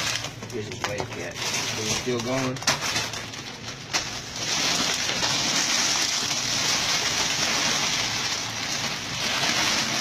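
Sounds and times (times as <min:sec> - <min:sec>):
snack wrappers crinkling: 0:00.0 - 0:10.0.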